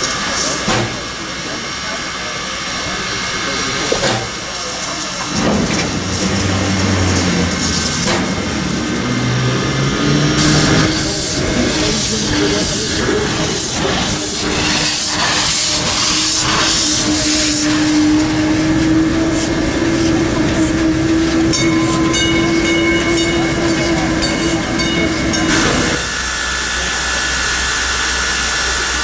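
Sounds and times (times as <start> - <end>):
steam locomotive exhaust chuffs: 0.0 - 29.0
steam locomotives hissing: 0.0 - 29.0.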